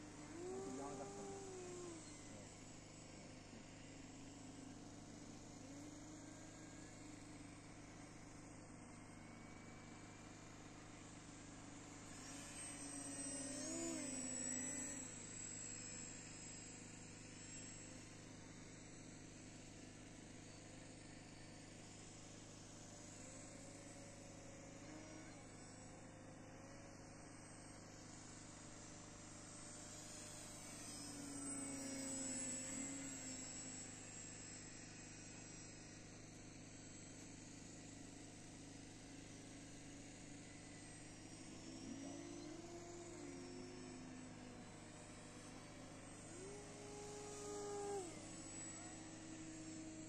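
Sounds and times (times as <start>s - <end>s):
model plane motor whine: 0.0s - 50.0s.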